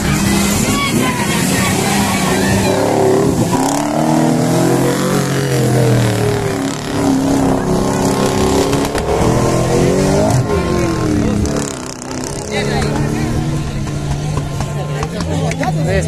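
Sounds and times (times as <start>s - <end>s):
off-road engine revving in mud: 0.0s - 16.0s.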